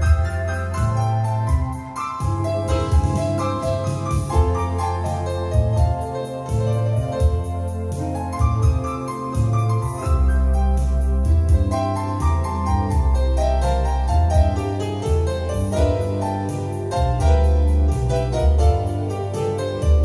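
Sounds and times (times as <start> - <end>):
electronic keyboard accompaniment: 0.0 - 20.0.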